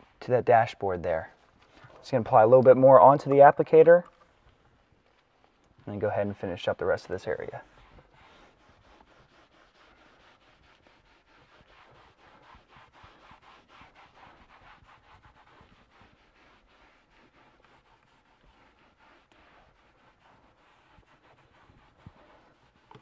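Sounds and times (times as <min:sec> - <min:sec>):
pad rubbing on plastic: 0:00.0 - 0:23.0.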